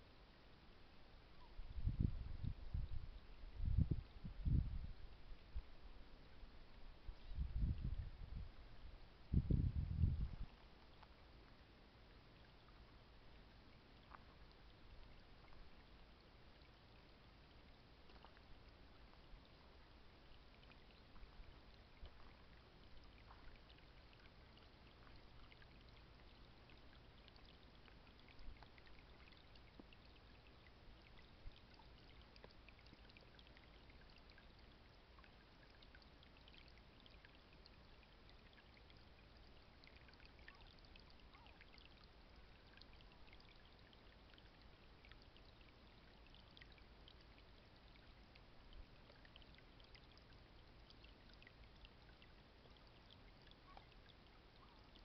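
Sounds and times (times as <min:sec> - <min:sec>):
faint water trickling among stones: 0:00.0 - 0:55.0.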